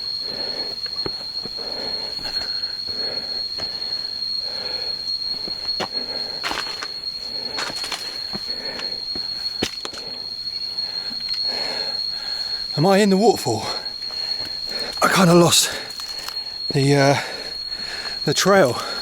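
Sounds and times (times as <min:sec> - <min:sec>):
insects droning high-pitched whine: 0:00.0 - 0:19.0.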